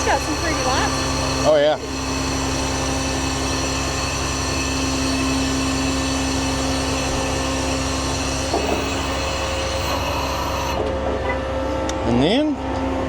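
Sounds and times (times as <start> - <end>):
truck ladder hydraulic whine: 0.0 - 13.0.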